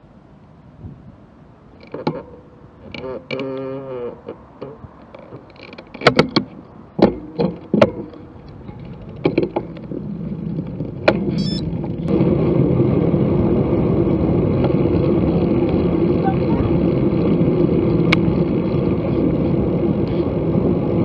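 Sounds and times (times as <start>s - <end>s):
wind and tyre noise: 0.0s - 21.0s.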